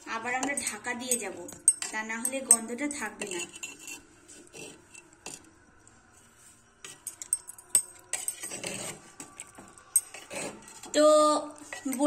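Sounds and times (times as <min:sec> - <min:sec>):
spoon scraping pot: 0:00.3 - 0:05.5, 0:06.8 - 0:12.0
spoon clinking against pot: 0:00.4 - 0:05.5, 0:06.8 - 0:11.0, 0:11.6 - 0:12.0.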